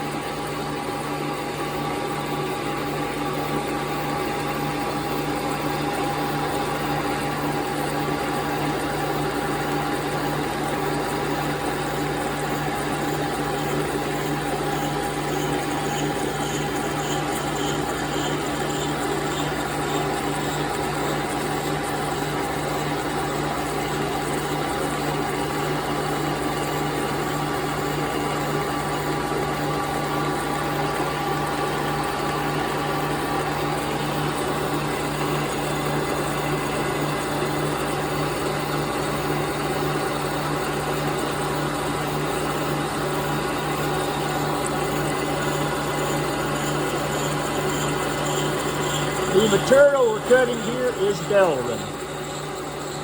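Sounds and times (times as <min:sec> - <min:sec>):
milling machine humming: 0:00.0 - 0:53.0.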